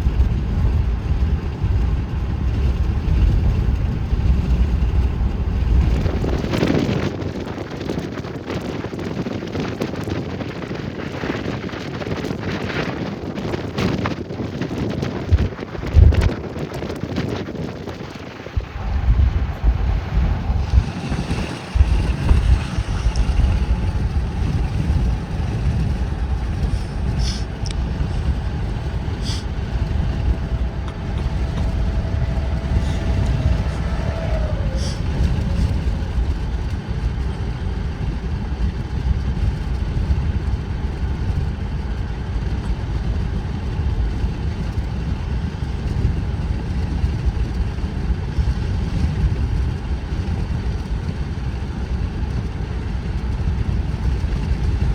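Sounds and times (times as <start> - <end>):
car road and engine rumble: 0.0 - 54.9.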